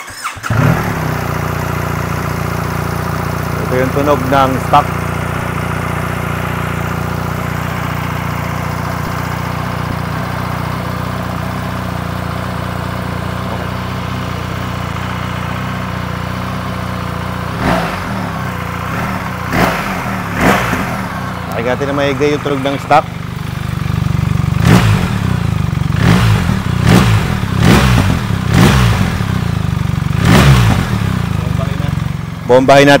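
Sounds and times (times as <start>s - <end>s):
motorcycle engine revving: 0.0s - 33.0s
motorcycle engine idling: 0.1s - 33.0s.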